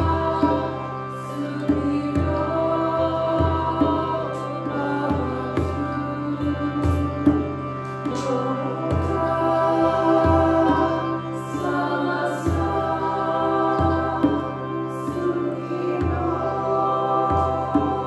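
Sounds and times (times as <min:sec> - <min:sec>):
sustained drone: 0:00.0 - 0:18.0
woman singing: 0:00.0 - 0:18.0.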